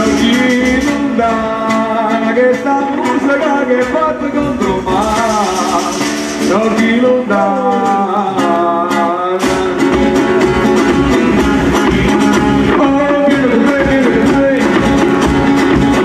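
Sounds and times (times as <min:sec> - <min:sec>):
guitar: 0:00.0 - 0:16.0
person singing: 0:00.0 - 0:16.0.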